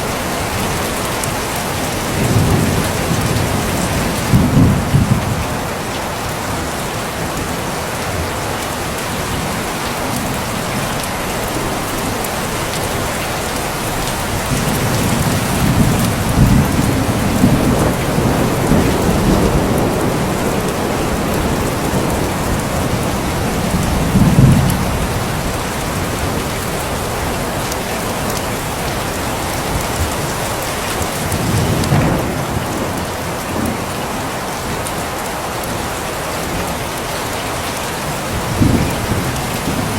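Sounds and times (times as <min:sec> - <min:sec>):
heavy rain falling: 0:00.0 - 0:39.9
thunder rumbling: 0:00.2 - 0:06.6, 0:09.3 - 0:35.0, 0:38.2 - 0:39.9.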